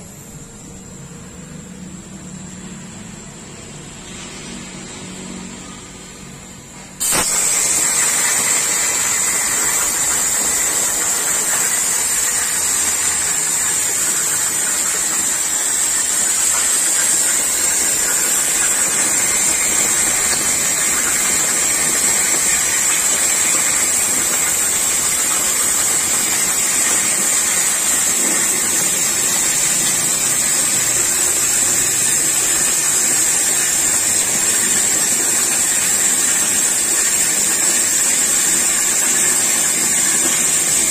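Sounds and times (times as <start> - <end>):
cutting torch hissing: 6.7 - 40.9.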